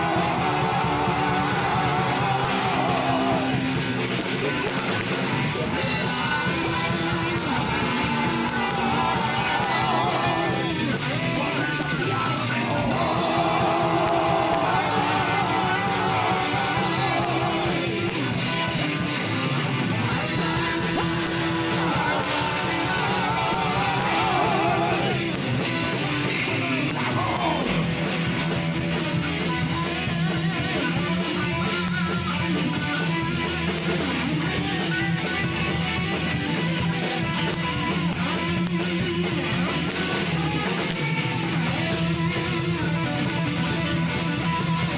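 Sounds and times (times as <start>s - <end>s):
steady drum beat: 0.0s - 11.6s, 12.3s - 18.7s, 19.9s - 44.9s
rock band guitars: 0.0s - 44.9s.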